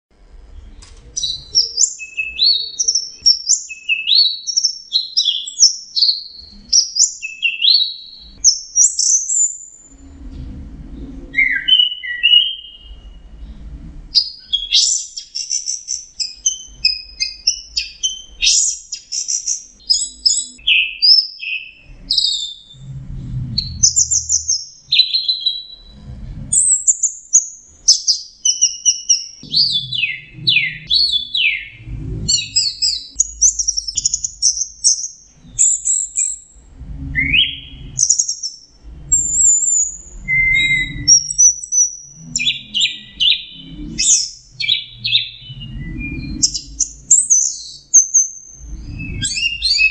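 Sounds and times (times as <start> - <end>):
thrush singing whistled phrases: 1.2 - 9.9, 11.4 - 13.3, 14.2 - 22.8, 26.6 - 36.5, 37.2 - 49.9.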